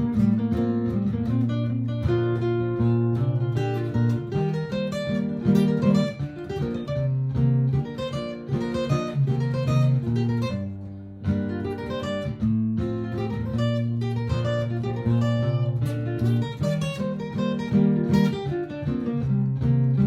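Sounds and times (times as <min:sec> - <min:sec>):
acoustic guitar picked lines: 0:00.0 - 0:20.0
looped guitar part: 0:00.0 - 0:20.0.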